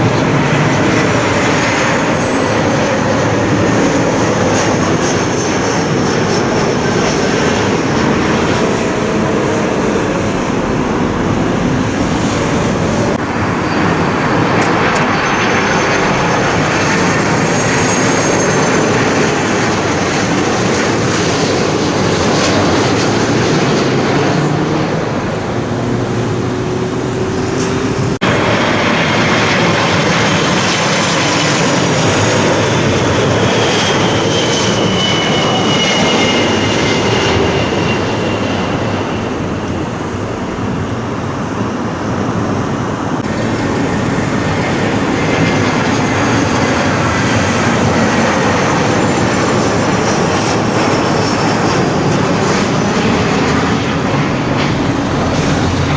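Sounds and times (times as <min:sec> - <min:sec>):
jet airliner engines overhead: 0:00.0 - 0:55.9
thin engine whine: 0:00.0 - 0:55.9.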